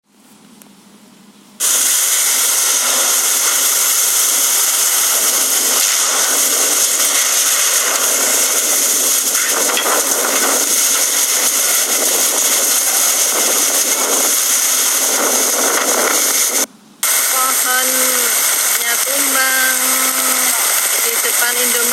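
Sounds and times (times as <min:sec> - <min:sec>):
heavy rain and wind: 0:01.6 - 0:21.9.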